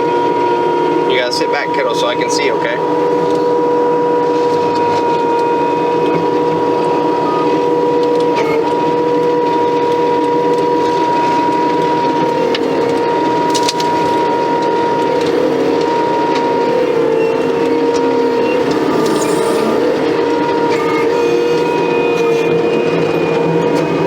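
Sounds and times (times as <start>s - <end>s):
stump grinder high whine: 0.0s - 24.0s.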